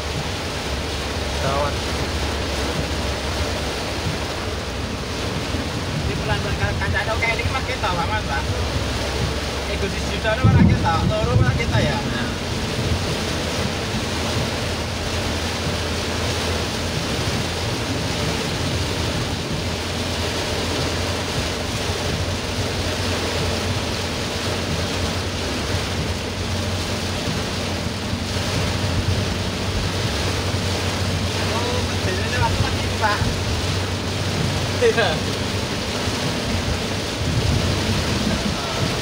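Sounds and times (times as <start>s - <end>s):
heavy rain on car roof: 0.0s - 39.0s
wet tyre and road noise: 0.0s - 39.0s.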